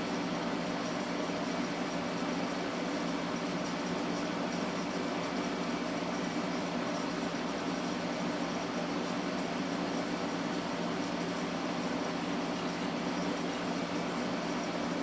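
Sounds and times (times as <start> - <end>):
fan noise: 0.0 - 15.0.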